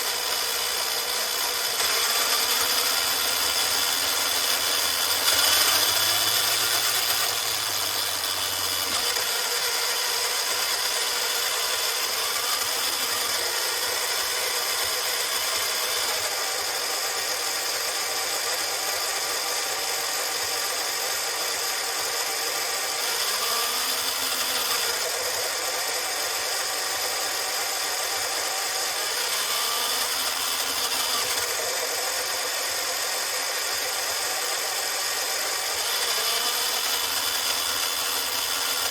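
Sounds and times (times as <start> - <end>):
electric motor whining: 0.0 - 38.9.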